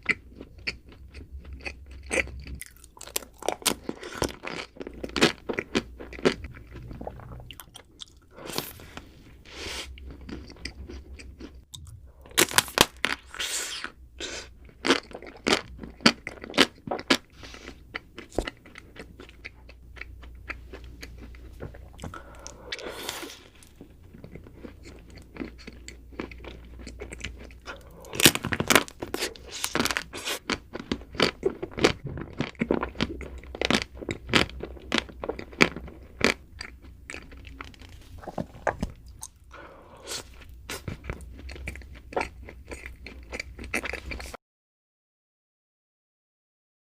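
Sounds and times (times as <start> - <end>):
person chewing crisp food: 0.0 - 44.4.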